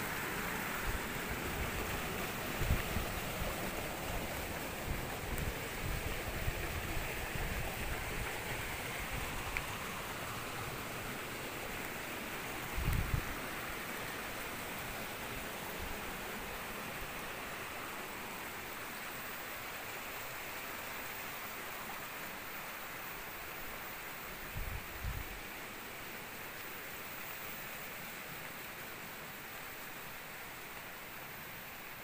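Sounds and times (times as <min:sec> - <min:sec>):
stream of running water: 0:00.0 - 0:32.0.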